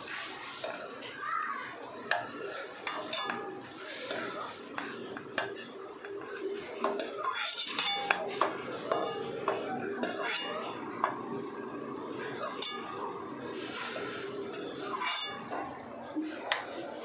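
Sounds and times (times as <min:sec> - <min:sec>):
ladle scraping a pan: 0:00.0 - 0:01.1, 0:02.0 - 0:11.4, 0:12.0 - 0:16.4.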